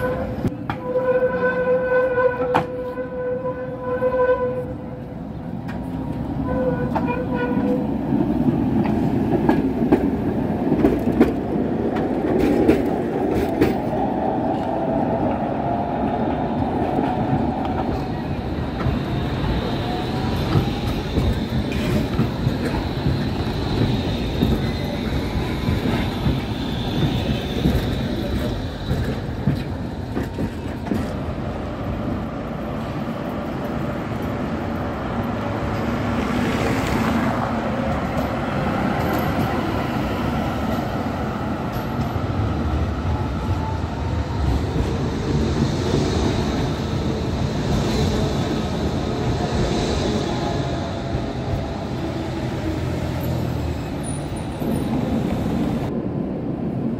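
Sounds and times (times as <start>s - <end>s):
tram wheels rumbling on rail: 0.0s - 56.9s.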